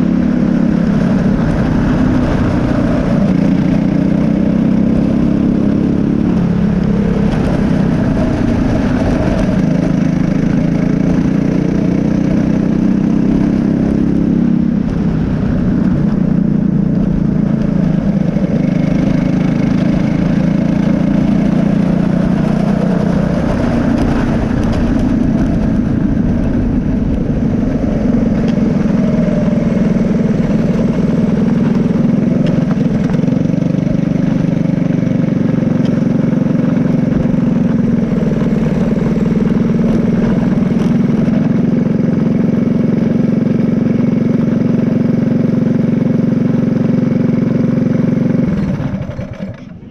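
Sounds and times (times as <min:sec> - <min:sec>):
kart engine racing: 0:00.0 - 0:49.9.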